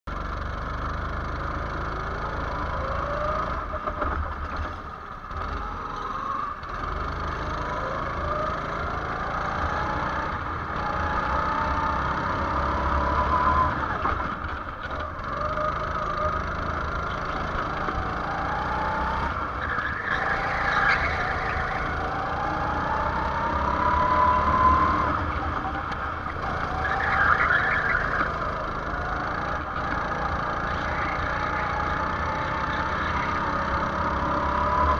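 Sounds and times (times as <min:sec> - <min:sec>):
go-kart engine accelerating: 0:00.1 - 0:34.9.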